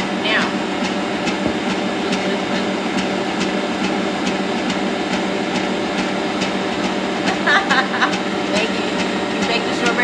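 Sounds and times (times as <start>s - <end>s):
stand mixer motor humming: 0.0s - 10.0s.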